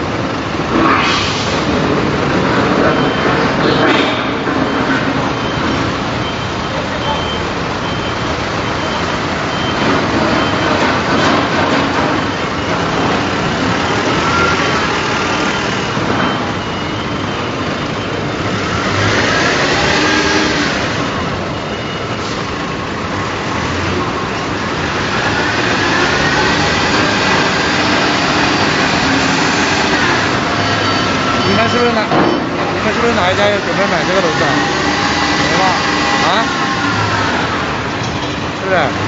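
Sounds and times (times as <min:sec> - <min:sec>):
industrial machinery noise: 0:00.0 - 0:39.0.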